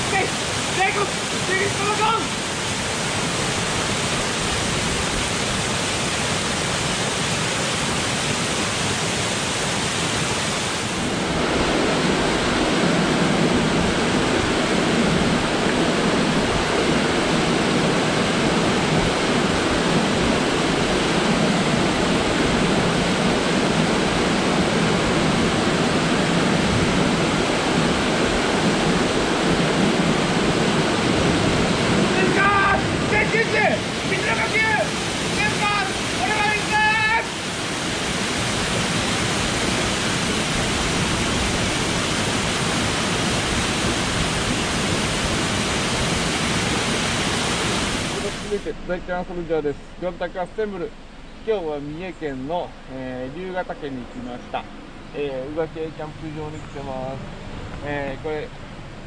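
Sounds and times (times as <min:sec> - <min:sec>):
waterfall rushing: 0:00.0 - 0:58.4.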